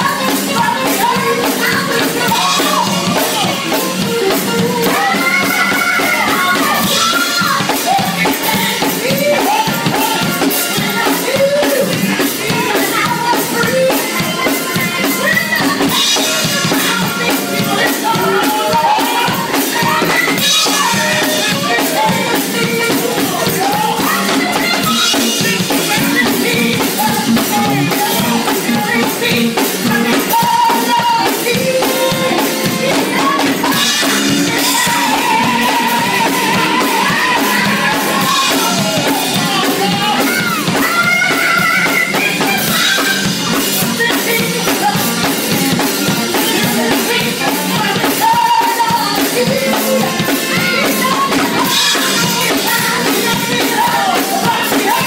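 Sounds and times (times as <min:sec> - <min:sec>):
drums keeping a beat: 0:00.0 - 0:55.0
keyboard accompaniment: 0:00.0 - 0:55.0
woman singing into microphone: 0:00.0 - 0:55.0.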